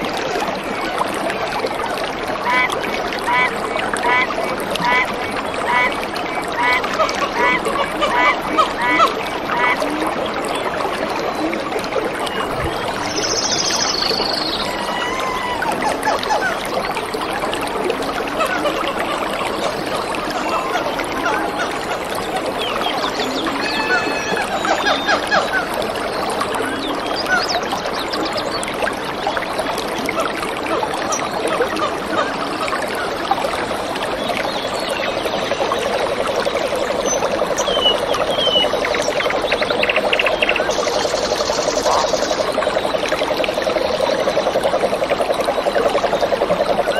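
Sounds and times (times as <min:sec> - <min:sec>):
stream rushing: 0:00.0 - 0:37.8.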